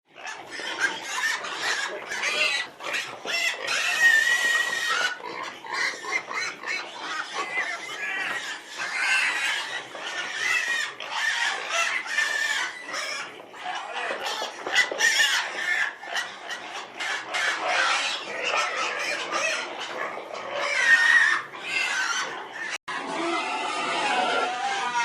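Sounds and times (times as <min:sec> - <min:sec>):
pigs squealing: 0:00.1 - 0:25.0.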